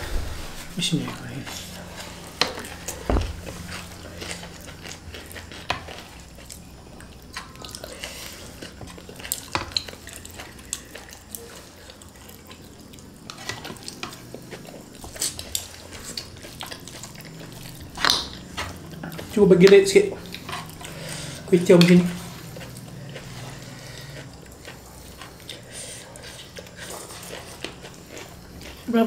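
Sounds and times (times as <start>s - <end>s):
wet chewing: 0.0s - 29.0s.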